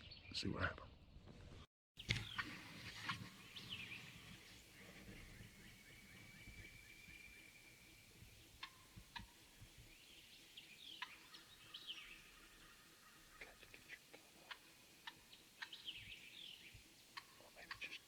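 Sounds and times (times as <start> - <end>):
faint birdsong chirps and trill: 0.0 - 18.0.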